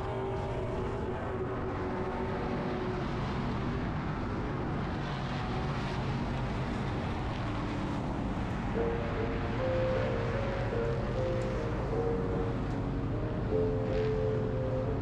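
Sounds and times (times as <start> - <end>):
truck engine running at low speed: 0.0 - 15.0.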